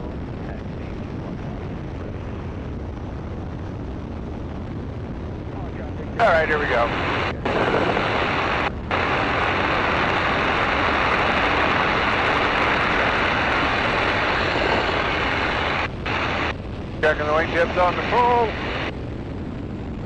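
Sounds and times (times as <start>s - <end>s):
biplane engine at full power: 0.0s - 20.0s
wind rush: 0.0s - 20.0s.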